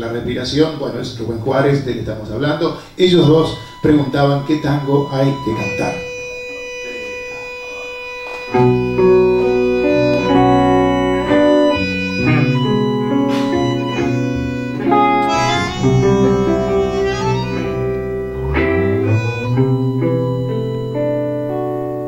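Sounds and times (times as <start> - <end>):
bandoneon playing chords: 3.1 - 22.0.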